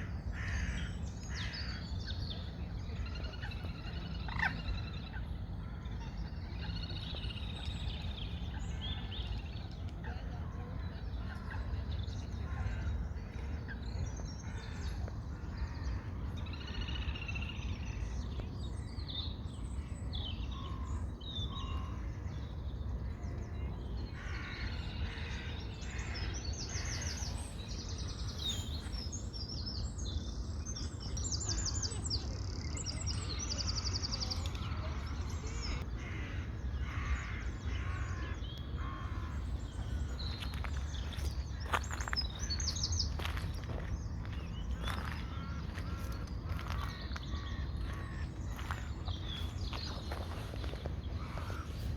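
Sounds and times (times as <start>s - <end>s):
songbirds singing and calling: 0.0s - 51.9s
steady low rumble: 0.0s - 51.9s.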